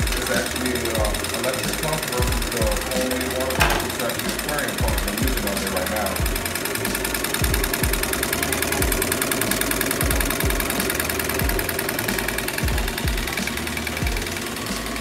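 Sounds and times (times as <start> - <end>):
small engine mechanical clatter: 0.0 - 15.0.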